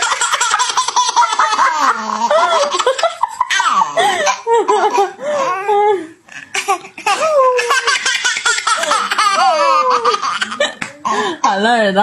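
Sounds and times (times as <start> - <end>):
baby laughing: 0.0 - 5.9, 6.5 - 11.4.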